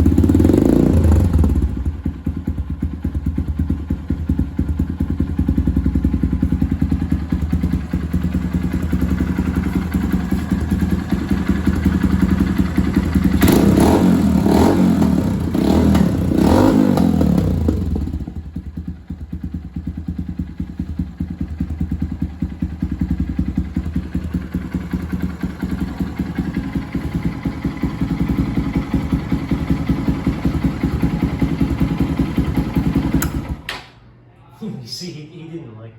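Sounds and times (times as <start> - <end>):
motorcycle engine idling and revving: 0.0 - 33.7.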